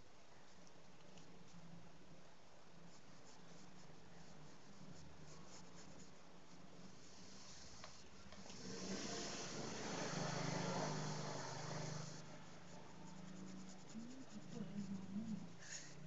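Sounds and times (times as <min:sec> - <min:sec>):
paintbrush rubbing on fabric: 0:02.8 - 0:16.0
steady hiss: 0:02.8 - 0:16.0.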